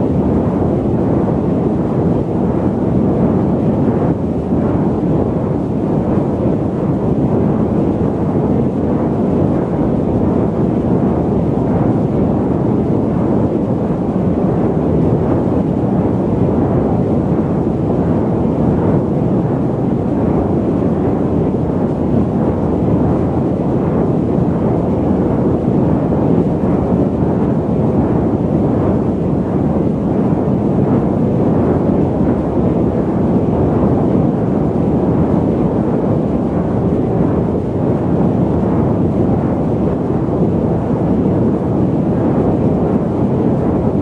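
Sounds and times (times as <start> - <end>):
jet engine cabin rumble: 0.0 - 44.0.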